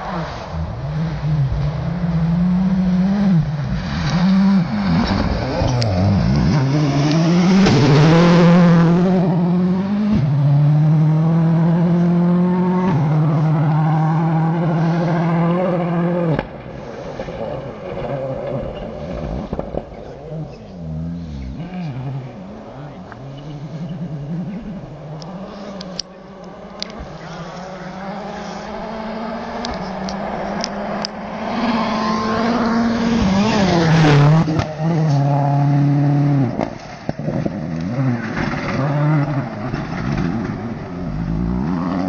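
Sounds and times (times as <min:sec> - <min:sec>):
rally car engine passing: 0:00.0 - 0:42.0.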